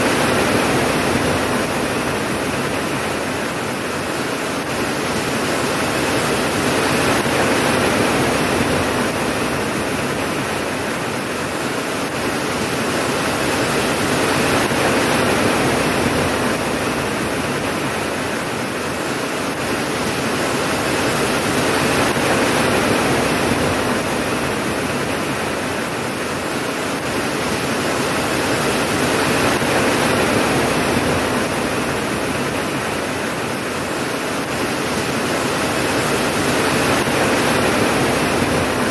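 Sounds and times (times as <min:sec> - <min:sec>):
heavy rain hiss: 0:00.0 - 0:38.9.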